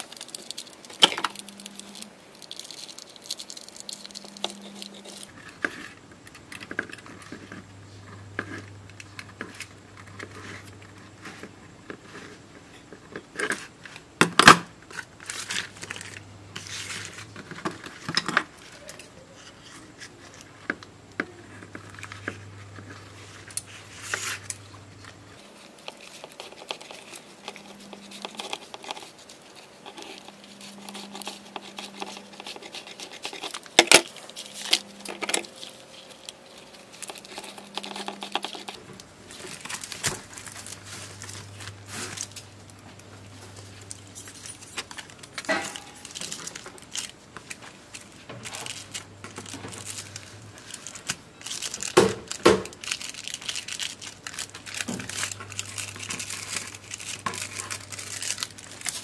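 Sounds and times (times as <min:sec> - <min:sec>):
thin plastic sheet crinkling: 0:00.0 - 0:11.5, 0:14.4 - 0:20.6, 0:21.3 - 0:59.0
faint low hum: 0:00.0 - 0:59.0.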